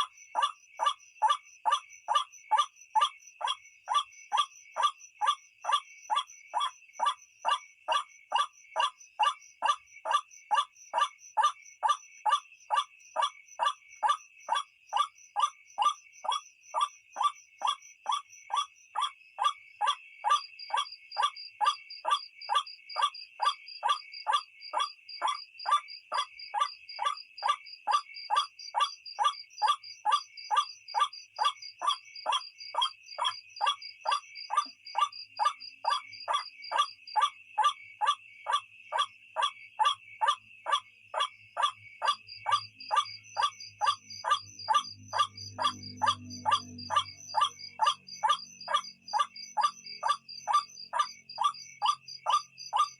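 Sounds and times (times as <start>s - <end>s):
crickets droning: 0.0s - 52.9s.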